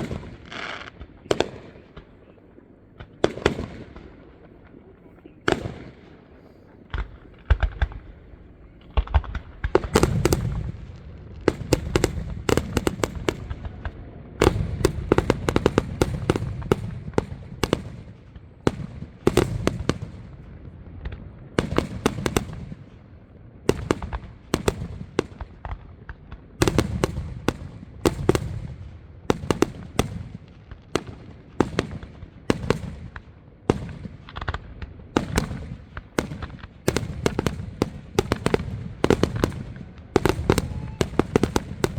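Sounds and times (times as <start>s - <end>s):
fireworks booming: 0.0s - 41.9s
fireworks crackling and popping: 0.0s - 41.9s.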